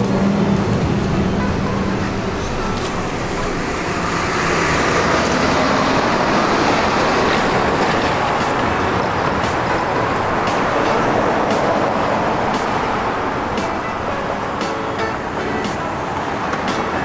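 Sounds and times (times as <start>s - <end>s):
rushing road traffic: 0.0s - 17.0s.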